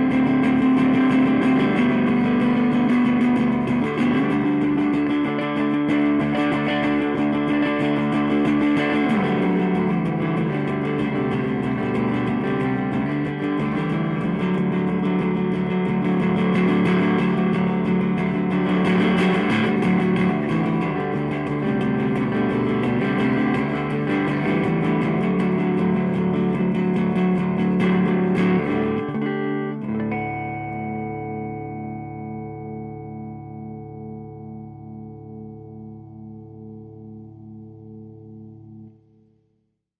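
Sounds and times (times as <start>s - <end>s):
electric guitar playing: 0.0s - 39.4s.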